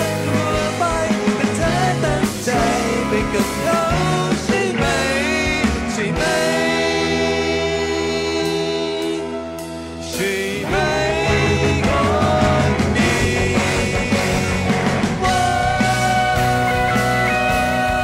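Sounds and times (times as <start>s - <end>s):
band accompaniment with drums: 0.0s - 18.0s
man singing a ballad: 0.0s - 18.0s.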